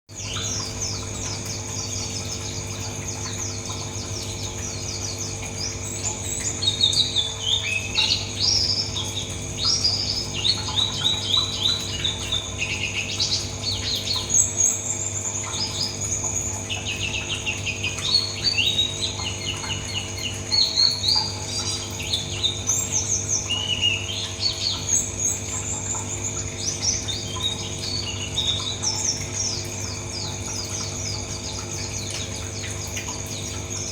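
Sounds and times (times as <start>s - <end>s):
bird twittering song: 0.1s - 33.9s
steady low hum: 0.1s - 33.9s.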